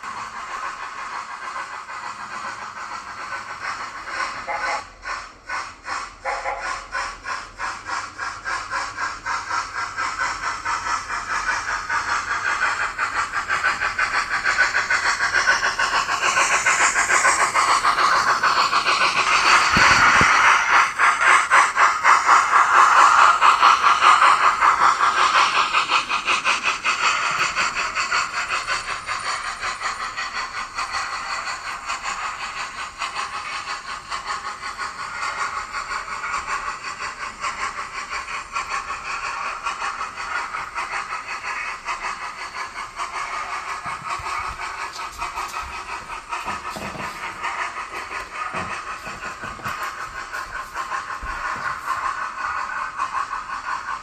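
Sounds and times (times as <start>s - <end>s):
rapid steam chuffs: 0.0s - 54.0s
steam hiss: 0.0s - 54.0s.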